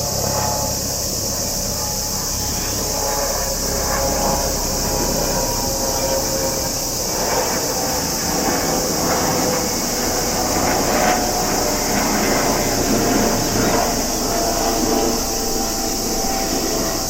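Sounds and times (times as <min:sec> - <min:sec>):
cicadas singing: 0:00.0 - 0:17.0
low rumbling background noise: 0:00.0 - 0:17.0.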